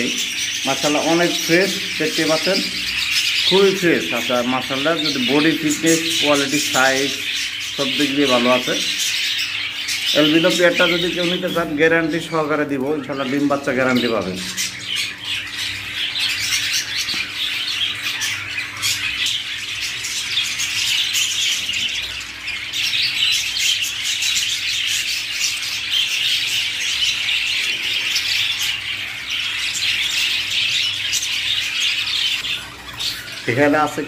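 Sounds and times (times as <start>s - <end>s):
caged birds chattering and squawking: 0.0s - 34.0s.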